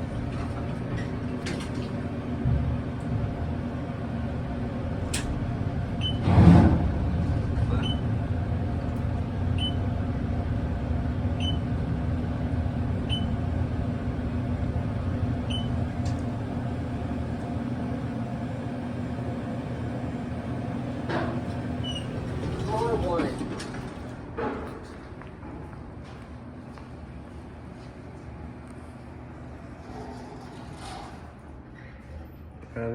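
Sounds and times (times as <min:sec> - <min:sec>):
elevator hum: 0:00.0 - 0:31.8.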